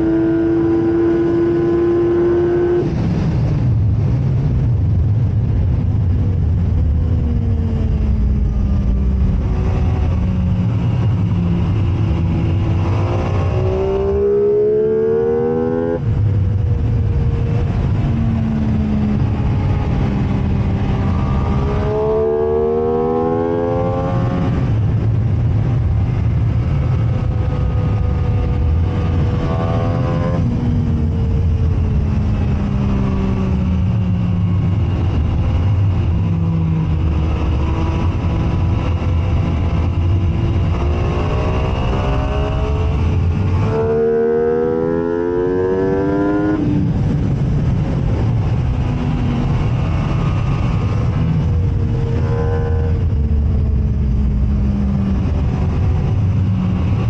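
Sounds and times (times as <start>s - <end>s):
racing motorcycle engine revving: 0.0s - 3.5s, 7.4s - 57.0s
steady rush of noise: 0.0s - 57.0s.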